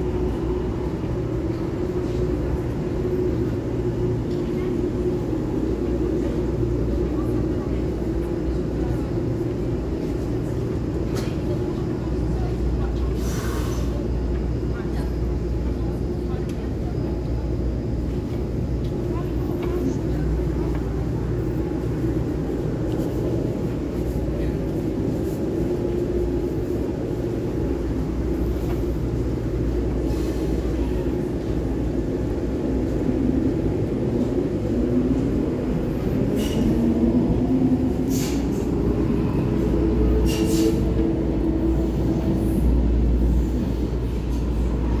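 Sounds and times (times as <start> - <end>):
metro train rumbling: 0.0 - 45.0.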